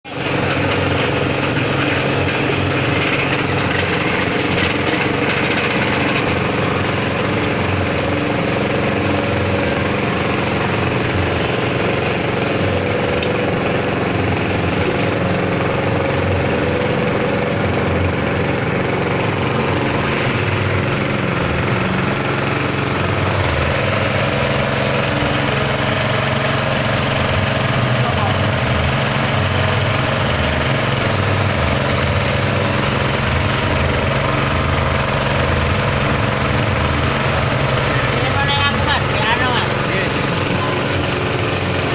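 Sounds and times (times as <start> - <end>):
pellet mill motor droning: 0.0 - 41.9.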